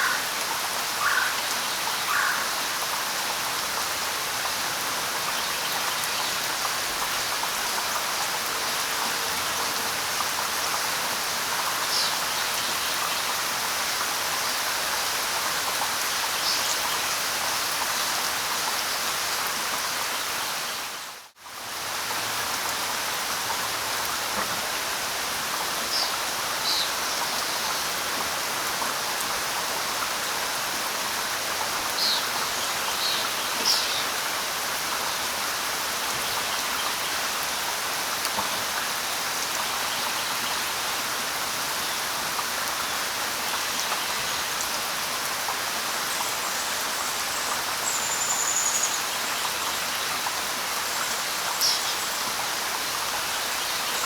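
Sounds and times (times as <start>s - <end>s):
light rain on leaves: 0.0s - 54.0s.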